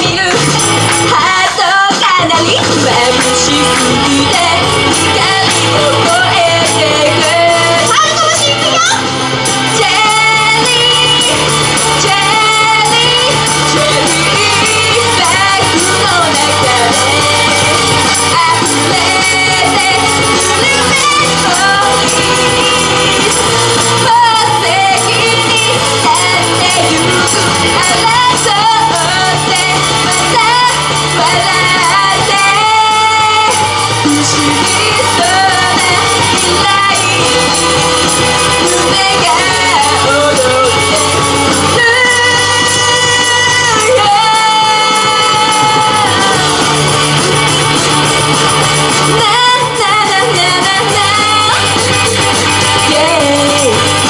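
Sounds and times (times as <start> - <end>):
pop music with singing: 0.0 - 54.0.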